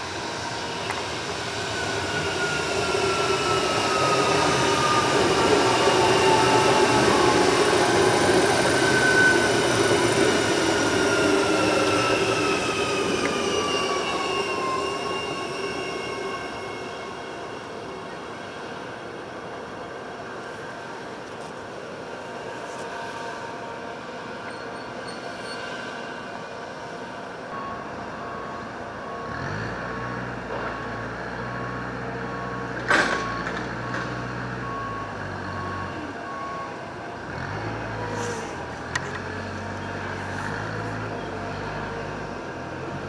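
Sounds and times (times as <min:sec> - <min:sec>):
electric train humming: 0:00.0 - 0:43.0.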